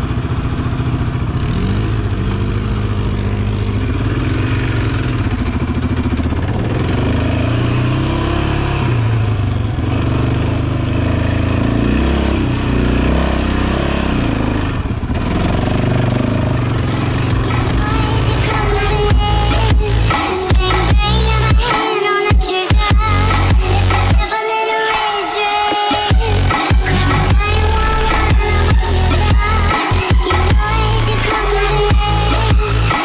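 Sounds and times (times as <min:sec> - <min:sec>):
quad engine revving: 0:00.0 - 0:33.0.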